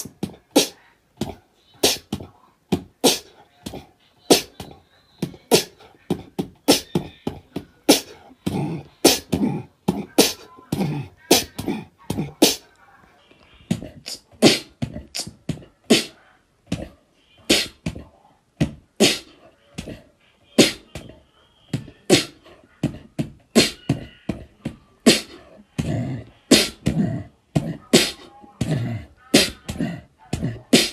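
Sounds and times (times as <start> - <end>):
beatboxing: 0.0 - 12.6, 13.7 - 16.9, 17.5 - 20.0, 20.6 - 21.2, 21.8 - 30.9.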